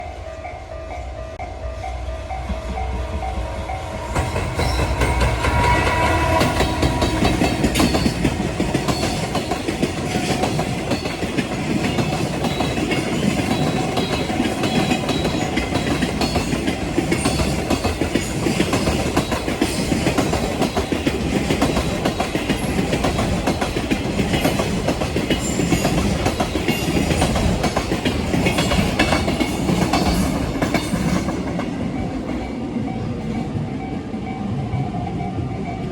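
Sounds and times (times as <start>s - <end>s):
freight train passing: 0.0s - 35.9s.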